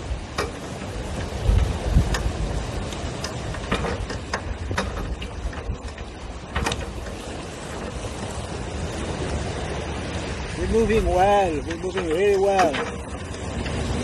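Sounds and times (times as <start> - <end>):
wind rumbling on microphone: 0.0 - 14.0
gear clicking and knocking: 0.2 - 8.5, 11.0 - 14.0.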